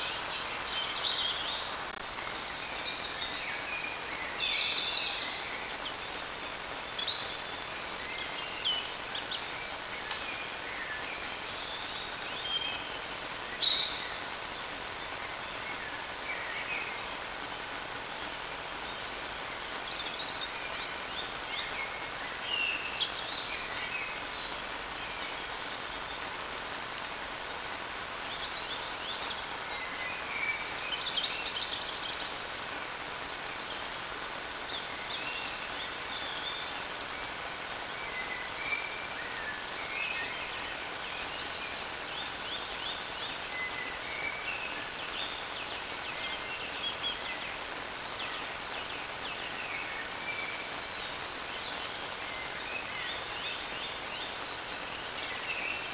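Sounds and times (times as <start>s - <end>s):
songbirds chirping and trilling: 0.0s - 55.9s
steady background hiss: 0.0s - 55.9s.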